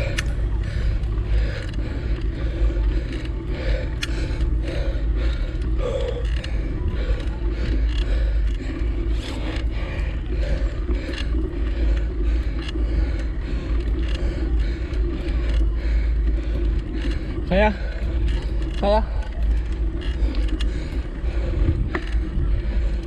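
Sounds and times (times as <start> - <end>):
bicycle rattling and clicking: 0.0 - 23.0
low rumble: 0.0 - 23.0.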